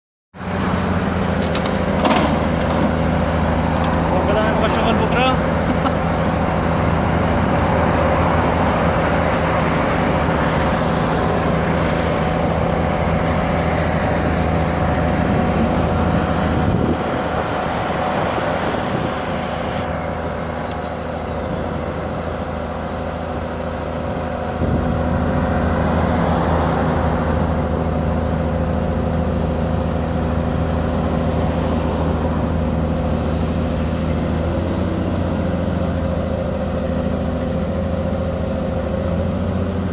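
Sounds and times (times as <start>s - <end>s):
diesel engine running: 0.4s - 39.9s.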